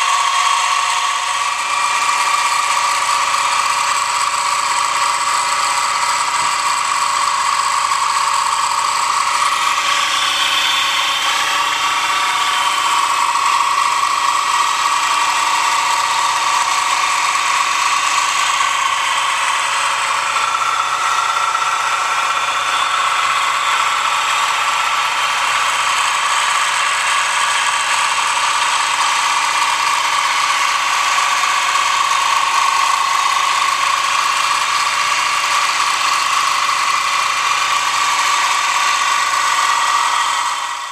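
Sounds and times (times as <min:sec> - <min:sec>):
milling machine whining: 0:00.0 - 0:40.9.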